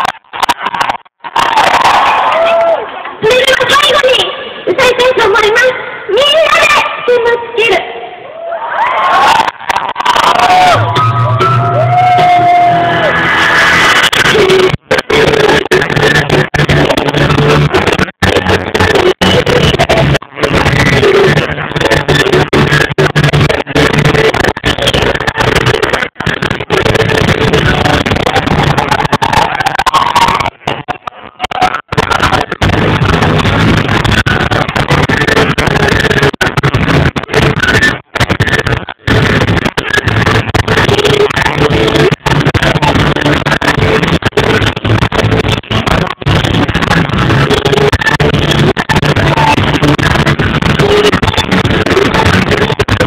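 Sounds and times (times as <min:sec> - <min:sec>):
distorted live pop concert music: 0:00.0 - 0:53.0.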